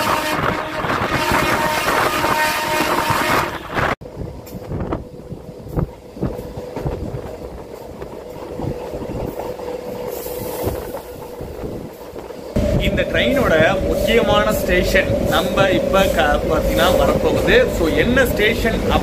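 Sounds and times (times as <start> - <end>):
wind on microphone: 0.0 - 17.8
wheels rumbling on rail: 0.0 - 19.0.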